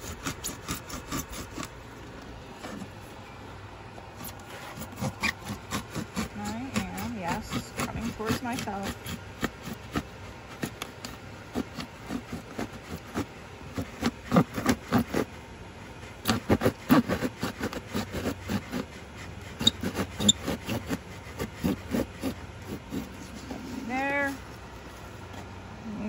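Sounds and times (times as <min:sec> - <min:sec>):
serrated blade sawing through foam: 0:00.0 - 0:01.8, 0:04.2 - 0:15.4, 0:16.0 - 0:24.4.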